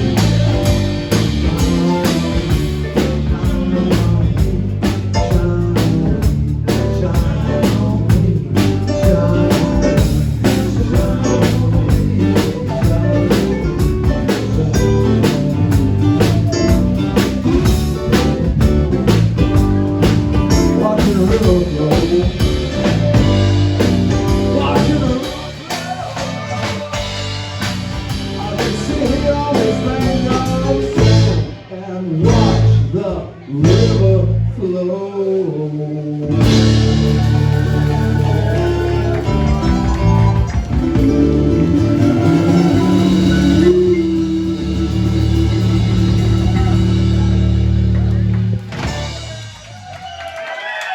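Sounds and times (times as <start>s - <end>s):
person singing: 0.0s - 18.2s, 20.4s - 47.7s
blues-rock band playing: 0.0s - 34.4s, 36.2s - 50.1s.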